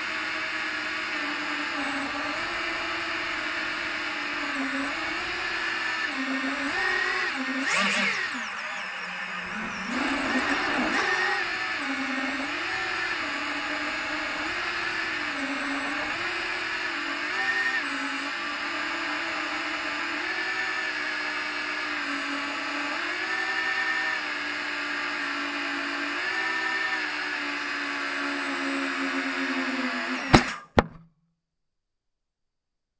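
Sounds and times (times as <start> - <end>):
quadcopter motors whining: 0.0 - 30.8.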